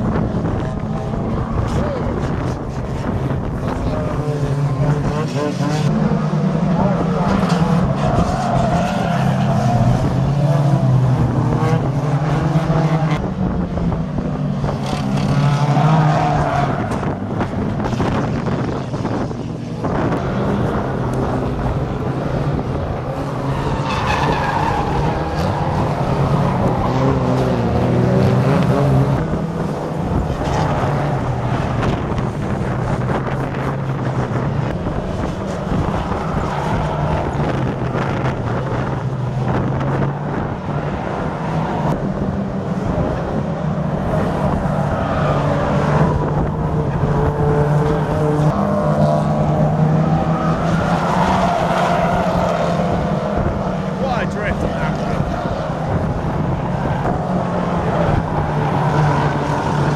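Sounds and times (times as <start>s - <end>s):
tyres skidding and squealing: 0.0s - 13.2s, 14.6s - 59.9s
car engines revving: 0.0s - 59.9s.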